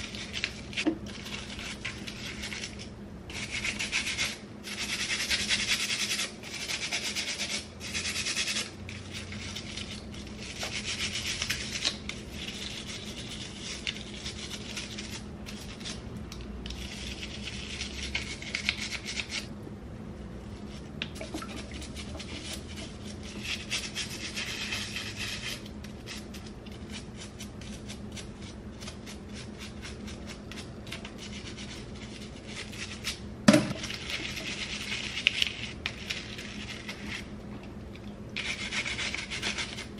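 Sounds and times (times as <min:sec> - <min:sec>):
brush scrubbing plastic comb: 0:00.0 - 0:16.0, 0:16.6 - 0:19.5, 0:20.6 - 0:33.2, 0:33.8 - 0:37.3, 0:38.4 - 0:39.9.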